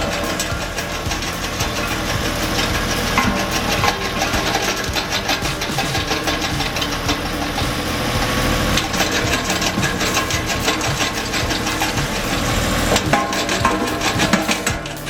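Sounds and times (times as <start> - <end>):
engine machine clattering: 0.0 - 15.0.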